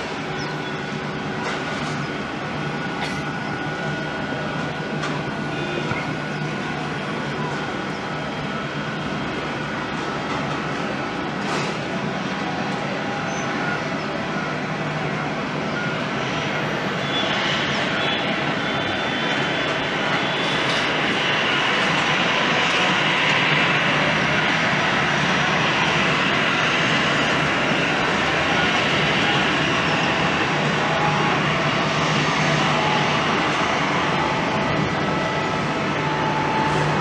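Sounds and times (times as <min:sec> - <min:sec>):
jet engine rush: 0:00.0 - 0:37.0.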